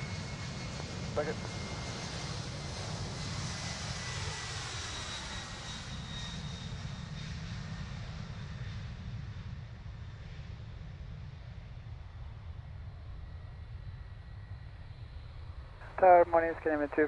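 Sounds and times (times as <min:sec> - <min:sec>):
airliner engines rumbling: 0:00.0 - 0:17.0.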